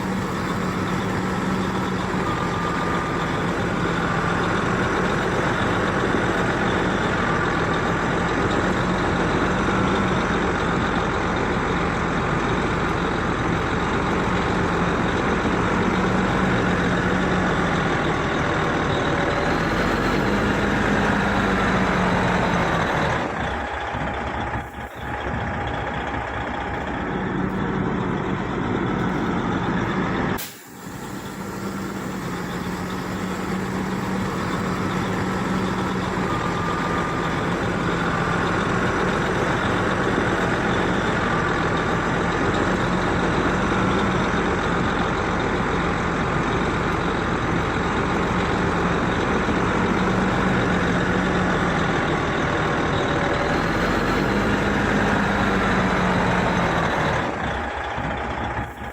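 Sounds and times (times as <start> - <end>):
diesel machinery engine drone: 0.0 - 58.9.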